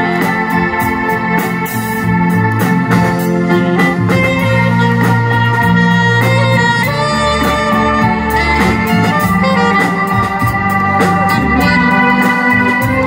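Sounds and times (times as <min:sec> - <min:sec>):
bass line: 0:00.0 - 0:13.0
drums and cymbals: 0:00.0 - 0:13.0
saxophone melody: 0:00.0 - 0:13.0.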